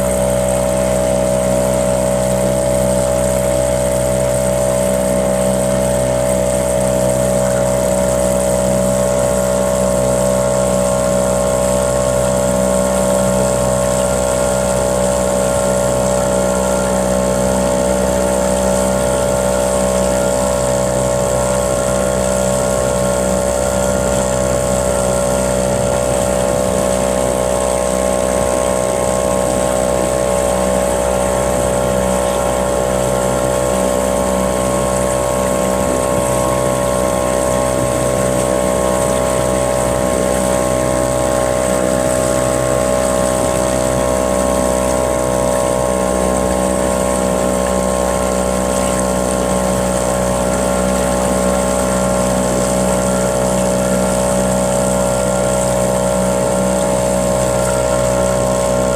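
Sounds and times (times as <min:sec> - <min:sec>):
small engine running: 0:00.0 - 0:58.9.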